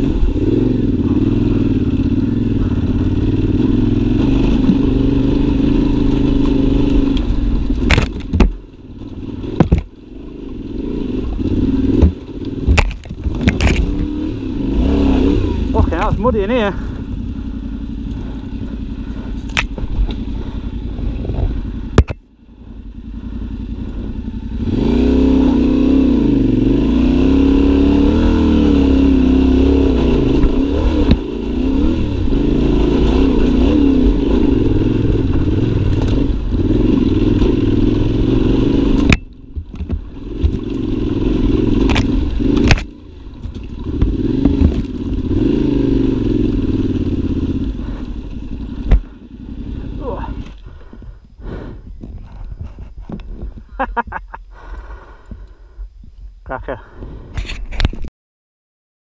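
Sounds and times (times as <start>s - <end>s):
motorcycle engine revving: 0.0s - 55.8s.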